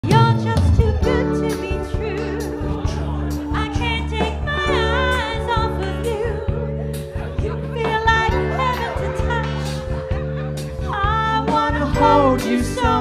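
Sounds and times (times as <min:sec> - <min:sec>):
person singing into microphone: 0:00.0 - 0:09.9, 0:10.8 - 0:13.0
pop music with steady beat: 0:00.0 - 0:13.0.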